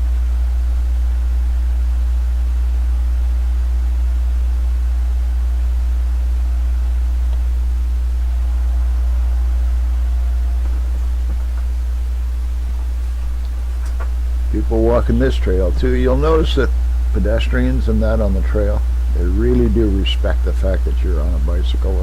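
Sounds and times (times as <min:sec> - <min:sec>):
faint constant tones: 0:00.0 - 0:22.0
low hum: 0:00.0 - 0:22.0.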